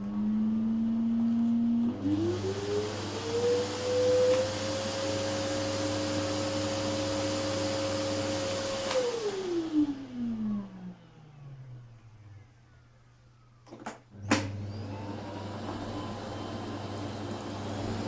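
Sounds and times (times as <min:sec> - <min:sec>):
vacuum cleaner motor whine: 0:00.0 - 0:12.8, 0:14.1 - 0:18.0.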